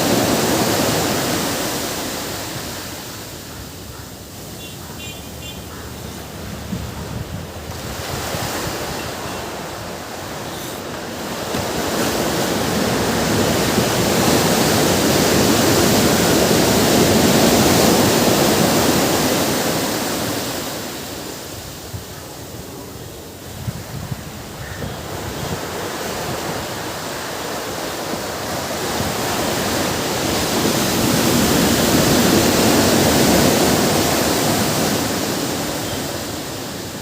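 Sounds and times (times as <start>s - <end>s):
ocean wave breaking: 0.0s - 22.0s, 25.0s - 37.0s.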